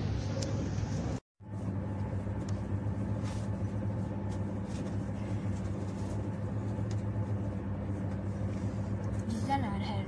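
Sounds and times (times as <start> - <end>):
train carriage running hum: 0.0 - 10.0.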